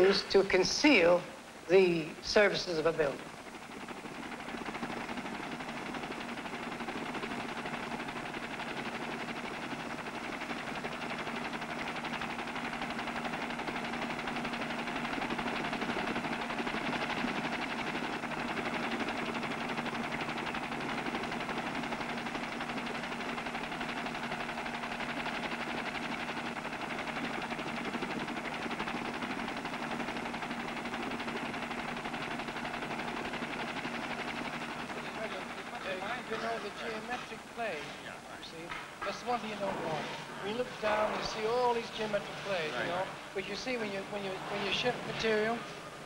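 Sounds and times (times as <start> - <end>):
constant low hum: 0.0 - 46.0.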